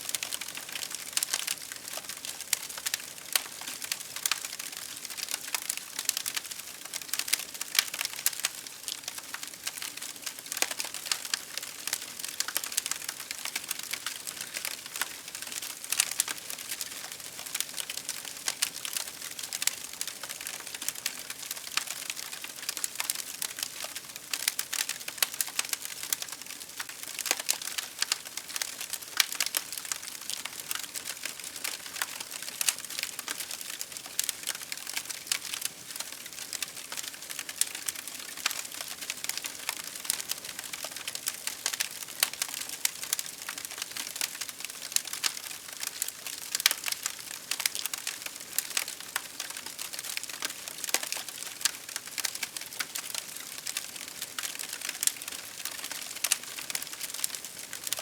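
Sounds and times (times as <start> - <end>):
wood fire crackling: 0.1 - 58.0.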